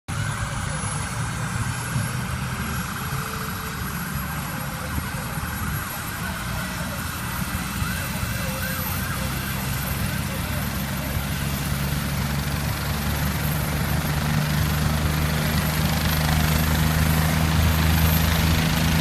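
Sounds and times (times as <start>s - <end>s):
helicopter engine and rotor: 0.1s - 19.0s.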